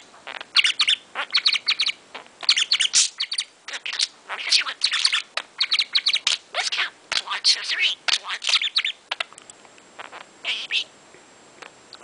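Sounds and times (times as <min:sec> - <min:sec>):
budgerigar chirping and warbling: 0:00.3 - 0:09.2, 0:10.0 - 0:10.9.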